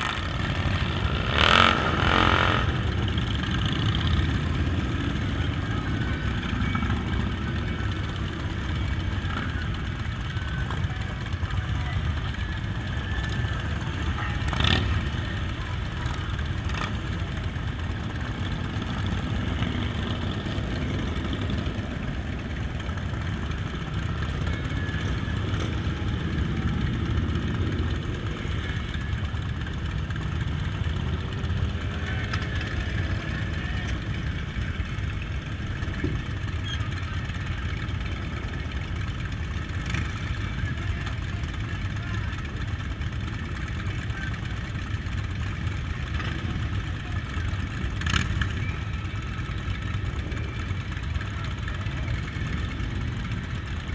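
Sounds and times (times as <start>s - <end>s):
motorcycle engines running: 0.0s - 53.9s.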